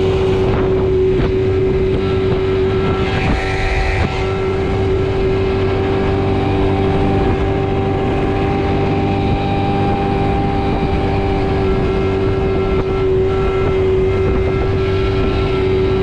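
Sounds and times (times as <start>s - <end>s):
boat engine drone: 0.0s - 16.0s.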